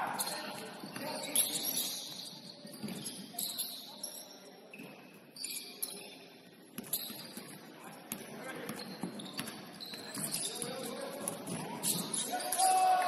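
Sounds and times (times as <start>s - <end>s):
shoes squeaking on hardwood floor: 0.2s - 7.6s, 8.7s - 12.8s.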